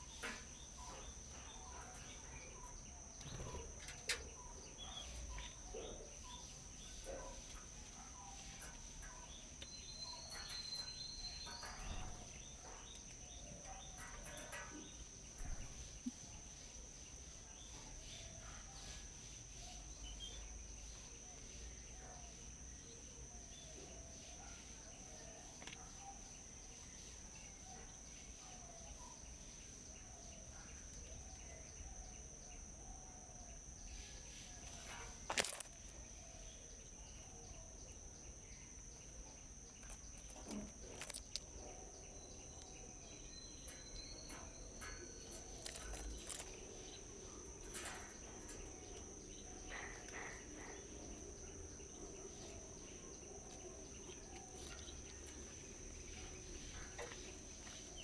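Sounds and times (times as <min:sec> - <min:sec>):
faint bird chirps: 0:00.0 - 0:58.0
high insect drone: 0:00.0 - 0:58.0.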